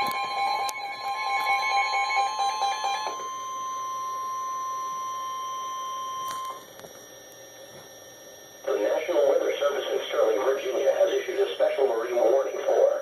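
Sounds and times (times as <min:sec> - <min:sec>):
steady alarm tone: 0:00.0 - 0:13.0.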